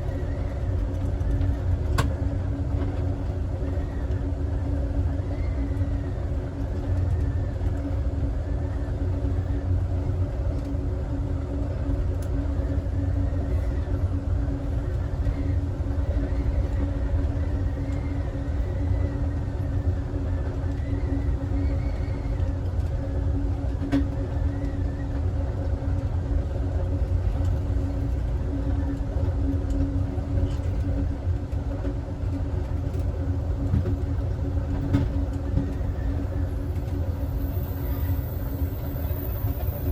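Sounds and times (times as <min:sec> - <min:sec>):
constant hum: 0:00.0 - 0:39.9
train wheels rumbling on rail: 0:00.0 - 0:39.9.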